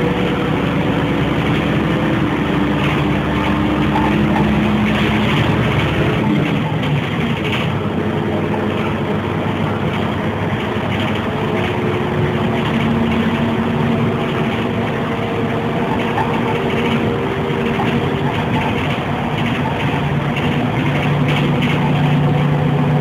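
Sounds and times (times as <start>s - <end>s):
bus diesel engine: 0.0s - 23.0s.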